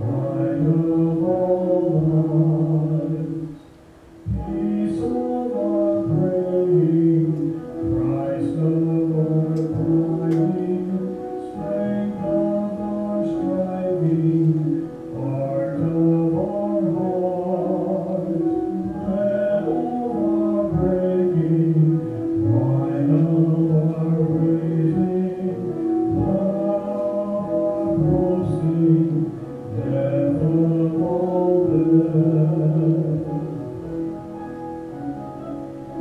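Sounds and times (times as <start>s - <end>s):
piano accompaniment: 0.0s - 36.0s
men singing a slow duet: 4.3s - 33.7s.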